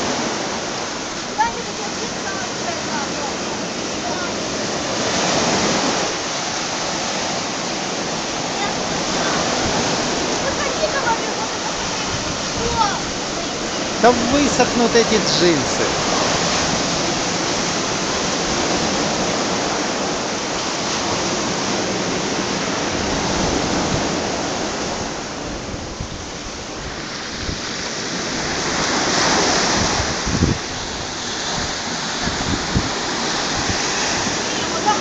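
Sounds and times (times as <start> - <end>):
surf breaking on beach: 0.0 - 35.0.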